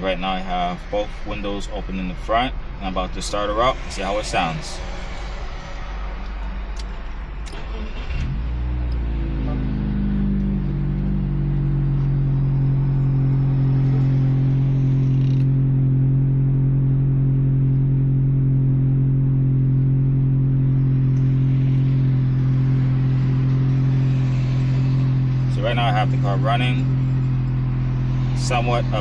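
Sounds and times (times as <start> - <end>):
car engine idling high: 0.0 - 29.0.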